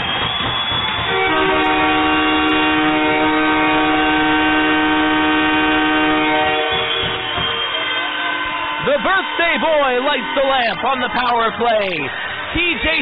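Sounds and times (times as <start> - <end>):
goal horn blast: 1.0 - 12.3.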